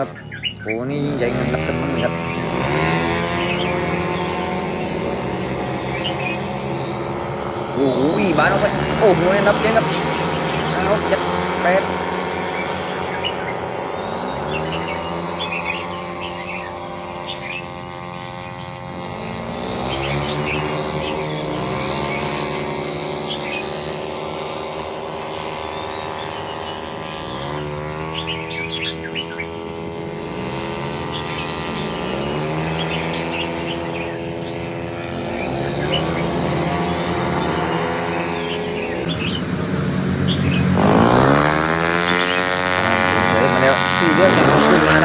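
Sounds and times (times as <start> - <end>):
birds chirping: 0.0 - 45.0
racing engines accelerating: 0.0 - 45.0.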